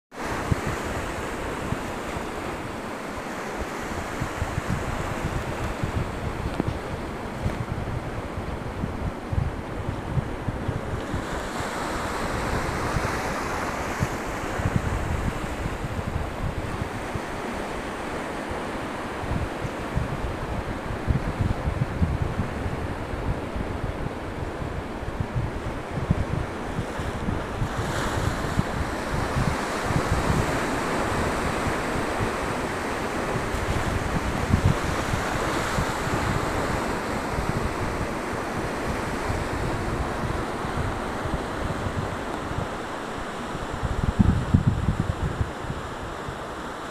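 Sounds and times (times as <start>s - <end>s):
ocean surf breaking: 0.1s - 46.9s
wind buffeting microphone: 0.1s - 46.9s.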